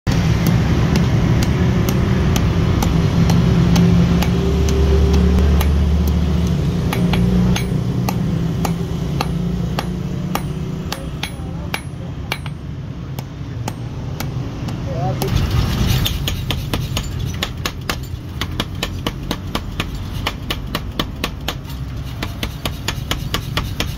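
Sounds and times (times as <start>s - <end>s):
hammer striking metal on anvil: 0.1s - 23.9s.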